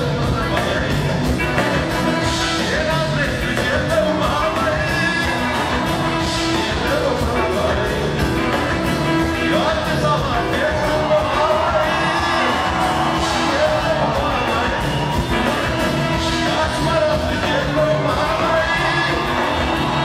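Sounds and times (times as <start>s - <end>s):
drum kit beat: 0.0s - 20.0s
man singing: 0.0s - 20.0s.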